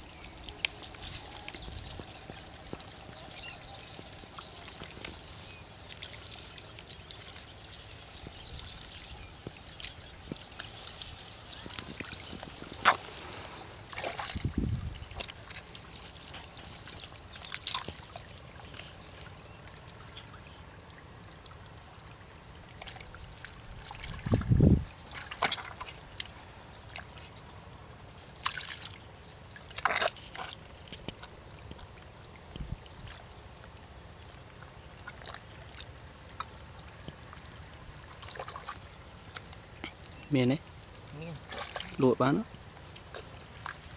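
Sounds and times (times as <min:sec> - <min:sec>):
hands squelching in wet mud: 0:00.1 - 0:19.9, 0:22.8 - 0:27.4, 0:28.3 - 0:40.3, 0:41.3 - 0:42.1.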